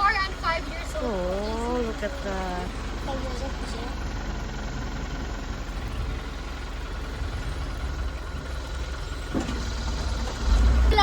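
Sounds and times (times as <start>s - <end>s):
road noise: 0.0s - 11.0s
tram engine rumbling: 0.0s - 11.0s.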